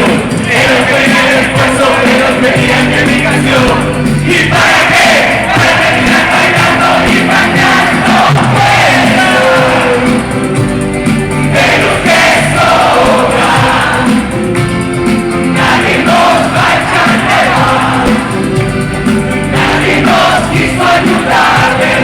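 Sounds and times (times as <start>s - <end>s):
crowd singing and shouting: 0.0s - 22.0s
live rock band playing: 0.0s - 22.0s.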